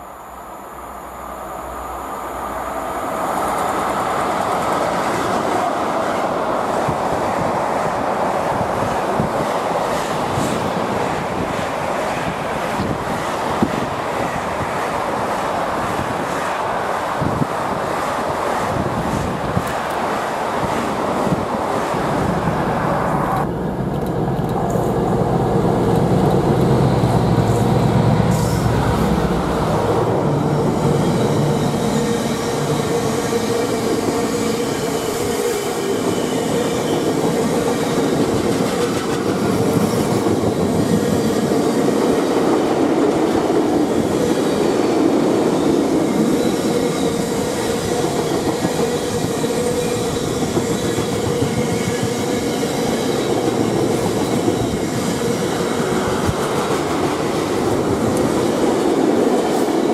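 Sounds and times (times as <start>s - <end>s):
train passing: 0.0s - 59.9s
wheels rushing on rail: 0.6s - 59.9s.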